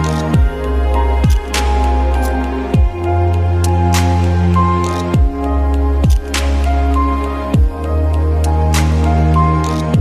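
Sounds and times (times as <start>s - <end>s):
calm synth music: 0.0s - 10.0s.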